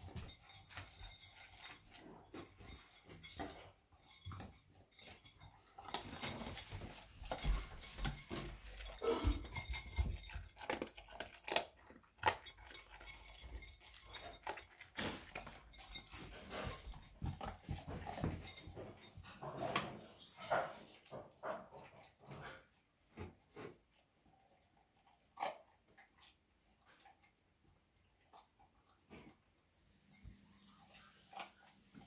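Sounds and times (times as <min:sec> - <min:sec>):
puppy eating from a bowl: 0:00.0 - 0:32.0.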